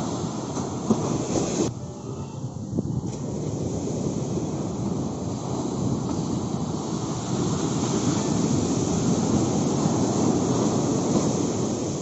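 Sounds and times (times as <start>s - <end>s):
sea surf breaking: 0.0s - 12.0s.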